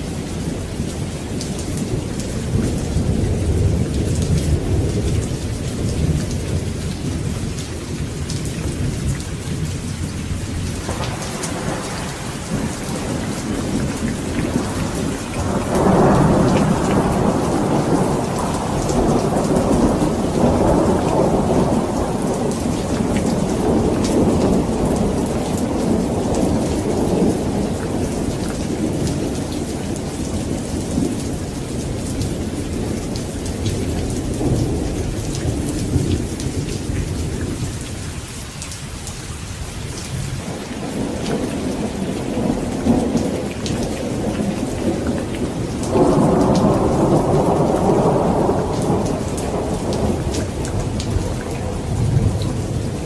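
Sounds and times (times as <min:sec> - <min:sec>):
steady rain falling: 0:00.0 - 0:53.0
rolling thunder: 0:00.3 - 0:38.2, 0:40.0 - 0:53.0.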